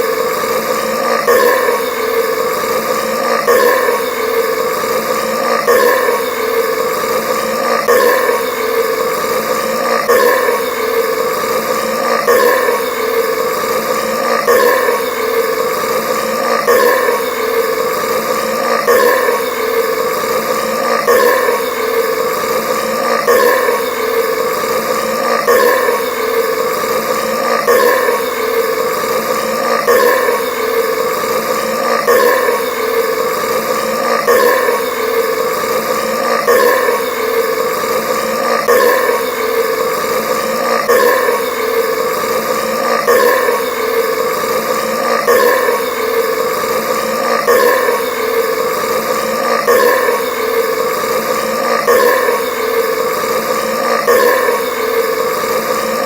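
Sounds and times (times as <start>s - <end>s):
long burps: 0.0s - 56.0s.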